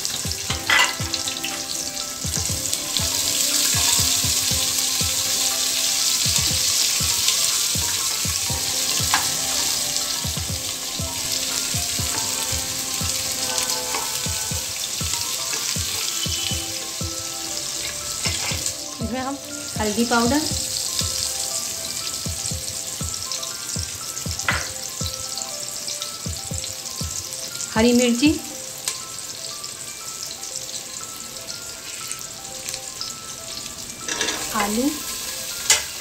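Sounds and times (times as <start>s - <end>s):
onions sizzling in hot oil: 0.0s - 36.0s.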